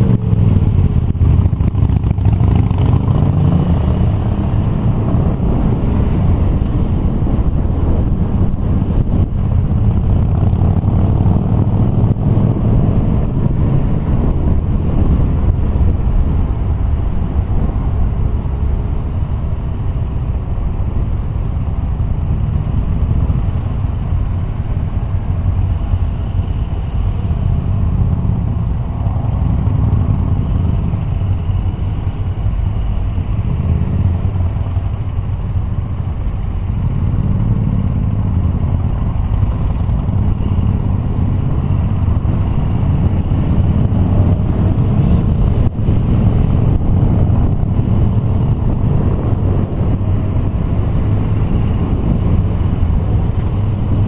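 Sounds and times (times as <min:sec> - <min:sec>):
motorcycle engine rumble: 0:00.0 - 0:54.0
wind on microphone: 0:00.0 - 0:54.0.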